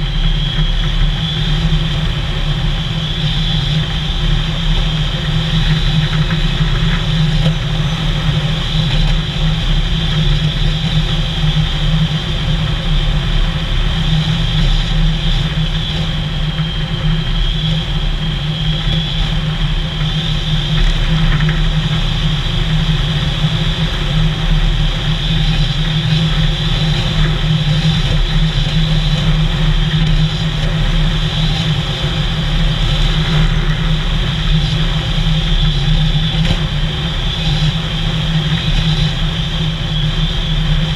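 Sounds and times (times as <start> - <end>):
vehicle engine and road drone: 0.0 - 40.9.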